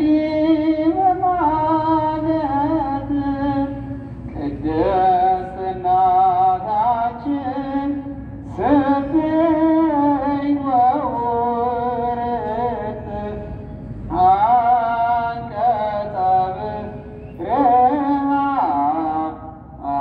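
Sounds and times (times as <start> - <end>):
hymn sung in melismatic phrases: 0.0 - 20.0.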